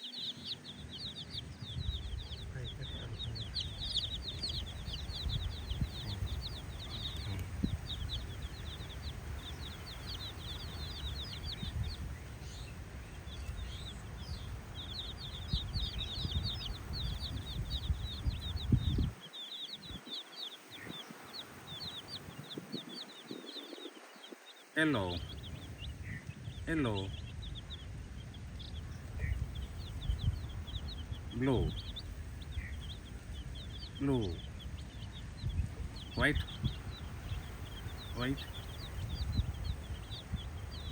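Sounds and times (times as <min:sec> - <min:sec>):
low rumbling noise: 0:00.0 - 0:19.2, 0:24.9 - 0:40.9
baby chicks peeping: 0:00.0 - 0:40.9.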